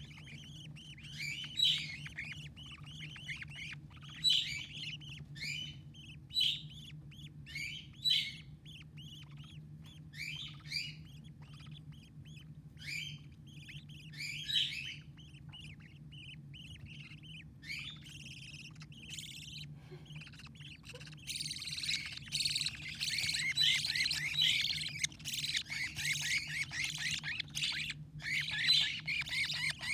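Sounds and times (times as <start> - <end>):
chicks chirping: 0.0 - 29.9.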